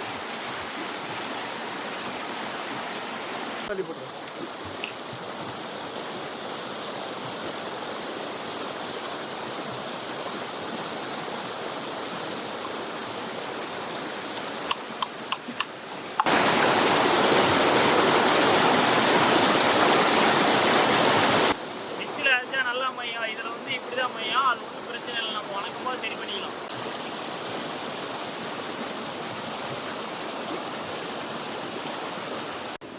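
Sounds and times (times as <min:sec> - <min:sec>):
river and waterfall rushing: 0:00.0 - 0:32.9.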